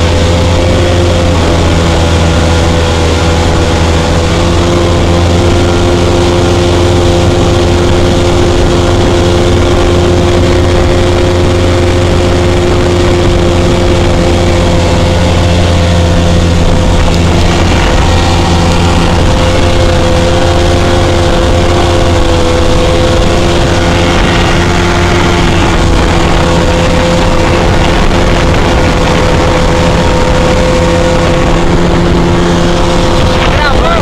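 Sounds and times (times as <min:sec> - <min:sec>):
outboard boat motor running: 0:00.0 - 0:34.0.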